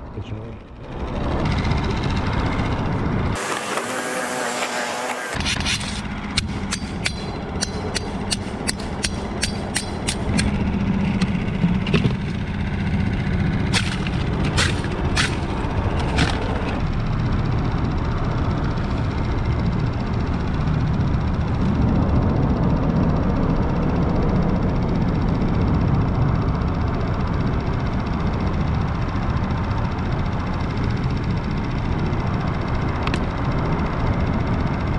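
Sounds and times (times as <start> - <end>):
low rumble: 5.6 - 34.9.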